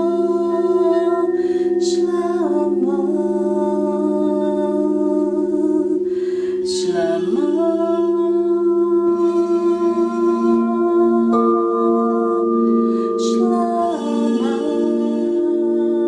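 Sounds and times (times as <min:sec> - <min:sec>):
crystal singing bowls ringing: 0:00.0 - 0:16.0
woman chanting: 0:00.0 - 0:16.0.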